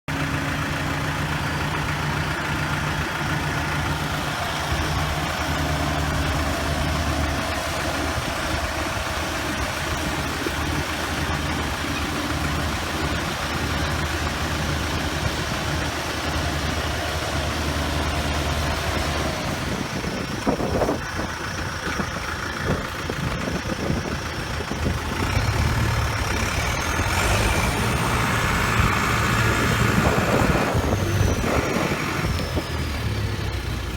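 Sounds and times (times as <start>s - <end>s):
engine with high whine: 0.1s - 33.9s
tractor engine running: 0.1s - 33.9s.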